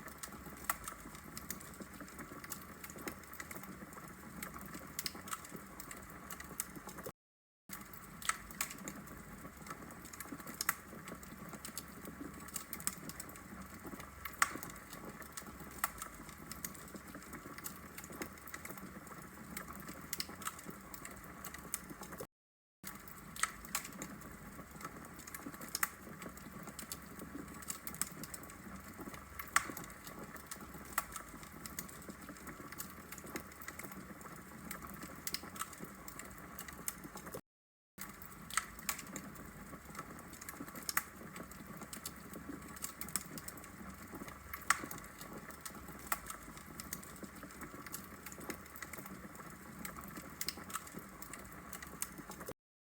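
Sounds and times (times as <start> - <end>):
logs crackling in fireplace: 0.0 - 7.1, 7.7 - 22.3, 22.9 - 37.4, 38.0 - 52.5.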